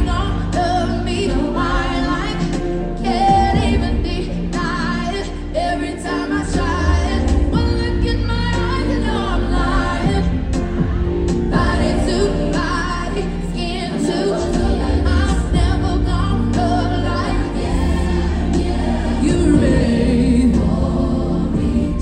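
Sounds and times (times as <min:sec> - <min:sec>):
backing track with deep bass: 0:00.0 - 0:22.0
woman singing into microphone: 0:00.0 - 0:22.0.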